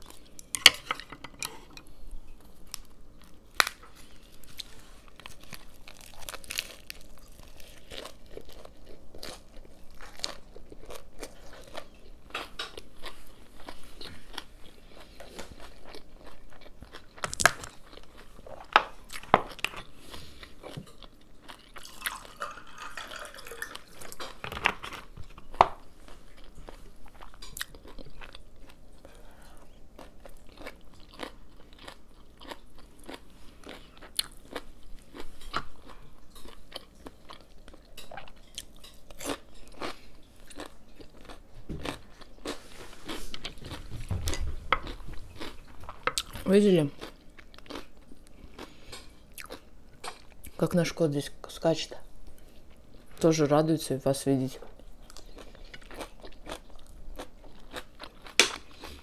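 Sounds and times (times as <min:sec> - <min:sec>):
lettuce crunching while chewing: 0:02.5 - 0:50.7, 0:54.6 - 0:59.0.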